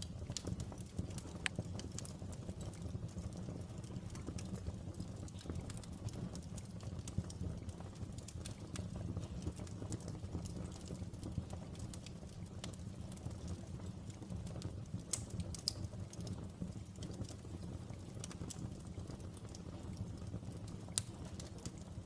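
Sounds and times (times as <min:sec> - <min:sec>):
fire flames rumbling: 0:00.0 - 0:22.0
wood crackling and popping: 0:00.0 - 0:22.0.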